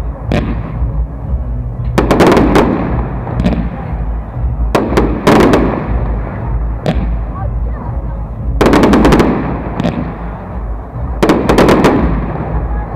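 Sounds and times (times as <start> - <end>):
fireworks bursting in sharp bangs: 0.0 - 12.9.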